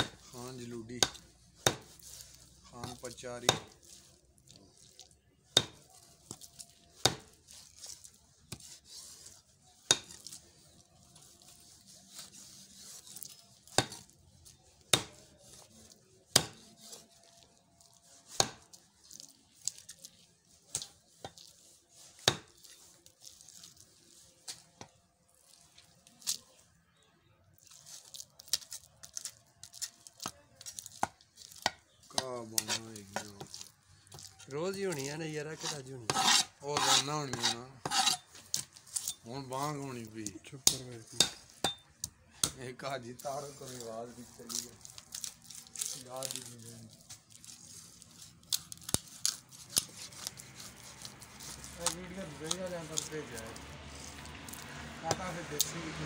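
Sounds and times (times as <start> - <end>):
cutting and handling fish flesh: 0.0 - 56.0.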